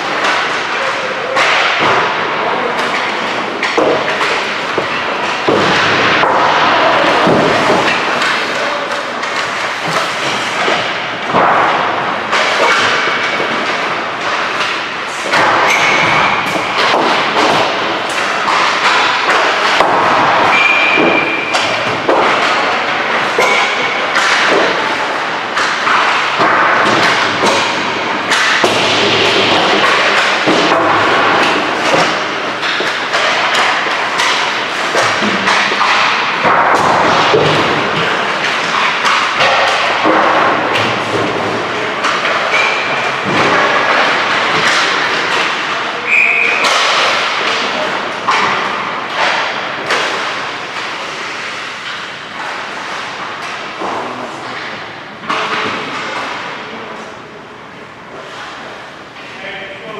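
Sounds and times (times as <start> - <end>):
hockey sticks and pucks knocking: 0.0 - 59.9.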